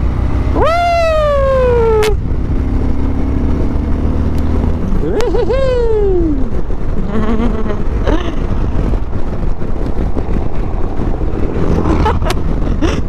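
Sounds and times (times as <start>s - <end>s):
motorcycle engine: 0.0s - 13.0s
trucks passing: 0.0s - 13.0s
wind rush on microphone: 0.0s - 13.0s.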